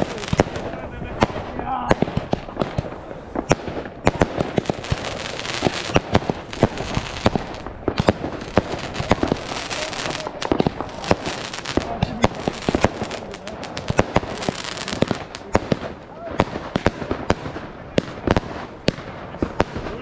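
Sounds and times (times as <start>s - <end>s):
rockets whizzing up: 0.0s - 16.8s
firework bangs: 0.0s - 20.0s
firework crackle: 0.0s - 20.0s.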